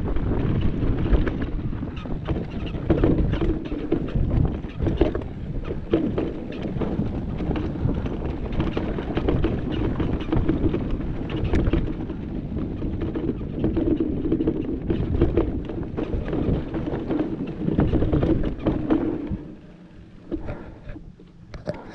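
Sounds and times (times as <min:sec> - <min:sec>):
bike chain and frame rattling: 0:00.0 - 0:21.0
wind on microphone: 0:00.0 - 0:21.9
tyres on dirt and stones: 0:00.1 - 0:21.9.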